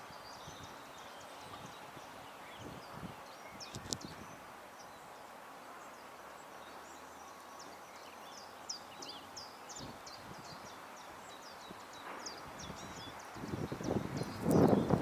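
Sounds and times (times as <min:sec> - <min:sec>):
outdoor background hiss: 0:00.0 - 0:15.0
songbirds chirping: 0:00.0 - 0:15.0.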